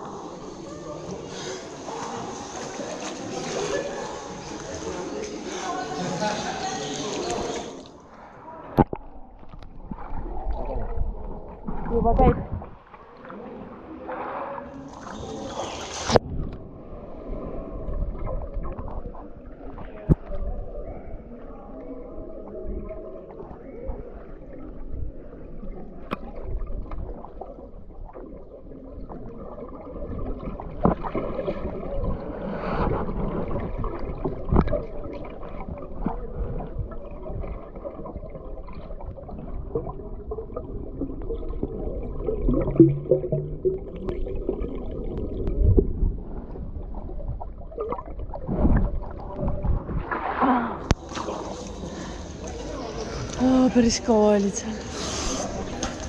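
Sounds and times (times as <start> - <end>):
underwater rumble of moving water: 0.0 - 56.0
water gurgling: 0.0 - 56.0.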